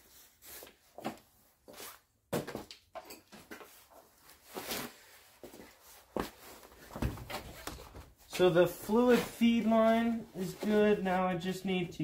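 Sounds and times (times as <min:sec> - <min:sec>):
rustling and scraping of parts: 0:00.0 - 0:11.3.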